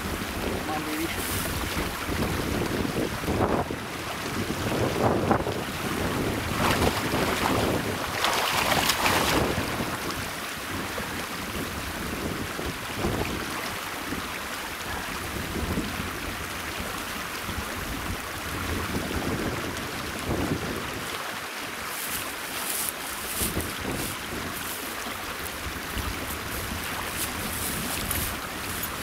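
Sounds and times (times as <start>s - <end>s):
wind buffeting microphone: 0.0s - 21.2s, 22.0s - 29.0s.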